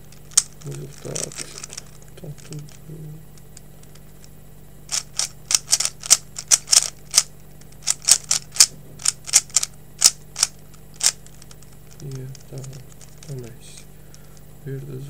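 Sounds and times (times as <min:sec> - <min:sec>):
puzzle cube plastic clicks: 0:00.1 - 0:04.3, 0:04.9 - 0:14.4.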